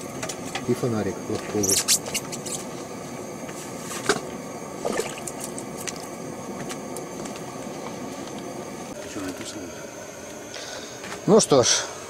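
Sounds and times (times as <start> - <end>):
gas heater burner hissing: 0.0 - 12.0.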